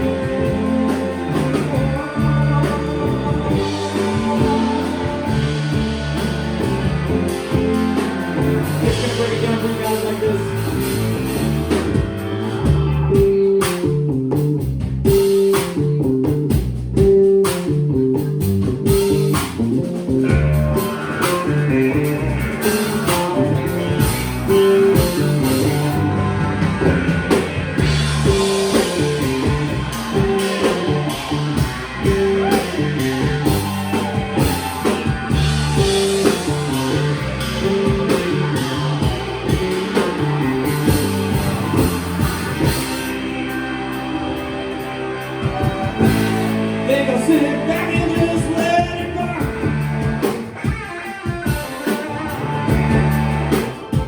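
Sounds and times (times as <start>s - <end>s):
drums with cymbals: 0.0s - 54.0s
guitar and bass riff: 0.0s - 54.0s.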